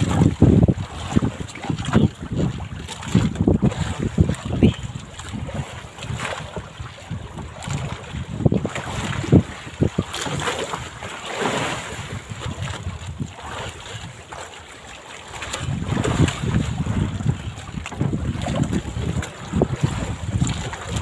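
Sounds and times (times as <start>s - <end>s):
wind buffeting microphone: 0.0s - 14.4s, 15.4s - 21.0s
water splashing and dripping: 0.0s - 21.0s
wet net hauled over boat side: 0.0s - 21.0s.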